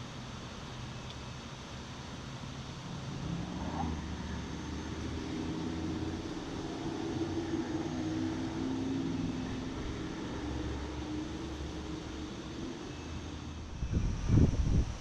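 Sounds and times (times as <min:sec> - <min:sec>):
distant engine drone: 0:00.0 - 0:15.0
wind hiss: 0:02.8 - 0:15.0.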